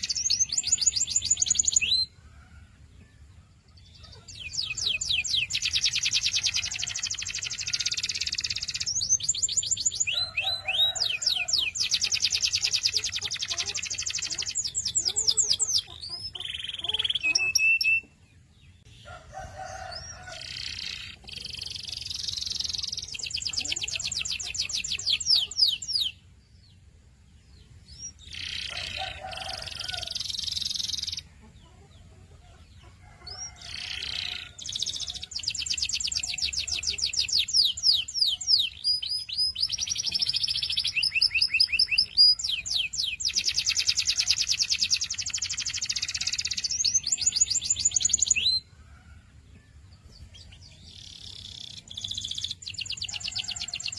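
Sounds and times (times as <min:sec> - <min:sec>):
canary singing trills: 0:00.0 - 0:02.4, 0:03.7 - 0:26.4, 0:27.5 - 0:49.1, 0:50.0 - 0:53.9.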